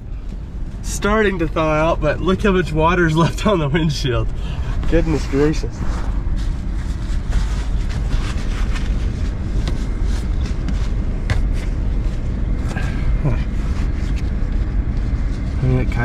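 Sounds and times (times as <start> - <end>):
van engine idling: 0.0 - 16.0.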